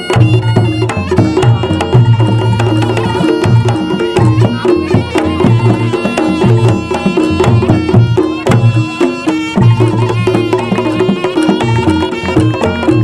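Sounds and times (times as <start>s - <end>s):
fast hand drumming: 0.0s - 13.0s.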